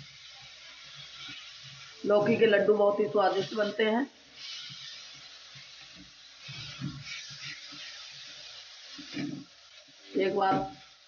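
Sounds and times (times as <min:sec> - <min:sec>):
food sizzling in a pan: 0:00.0 - 0:11.0
wooden spatula stirring and scraping: 0:00.2 - 0:11.0.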